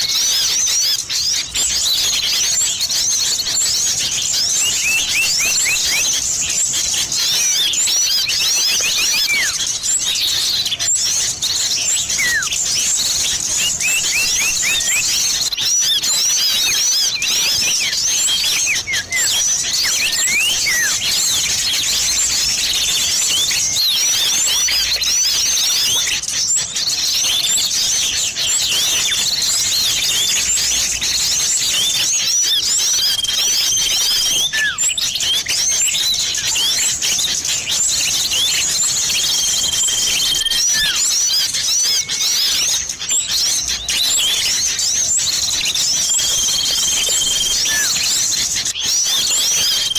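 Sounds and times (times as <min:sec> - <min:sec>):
many small birds chirping: 0:00.0 - 0:49.9.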